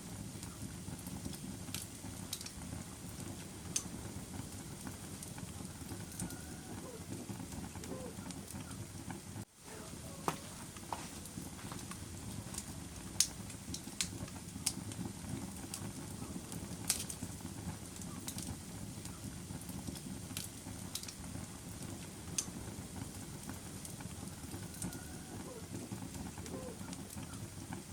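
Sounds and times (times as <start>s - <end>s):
fire crackling and popping: 0.0s - 27.9s
fire rumbling: 0.0s - 27.9s.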